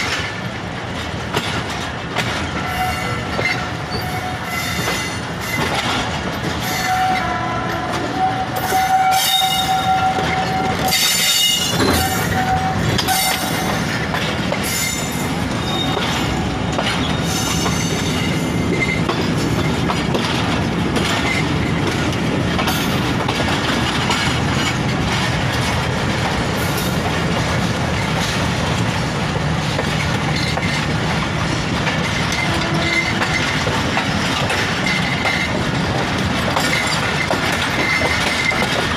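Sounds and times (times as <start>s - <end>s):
train wheels clattering over rails: 0.0s - 38.9s.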